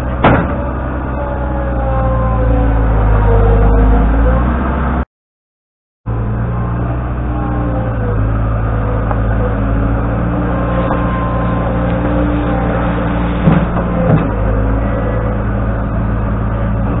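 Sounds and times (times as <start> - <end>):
skid steer loader engine running: 0.0 - 5.0, 6.1 - 17.0.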